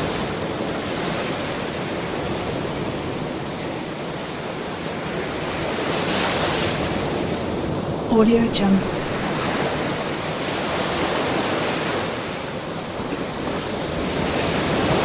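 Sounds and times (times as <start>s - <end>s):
waves washing onto shore: 0.0s - 15.0s.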